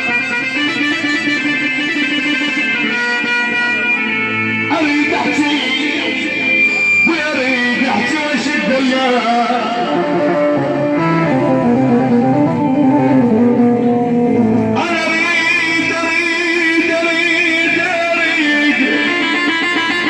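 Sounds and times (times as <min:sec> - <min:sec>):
live band playing music: 0:00.0 - 0:20.0.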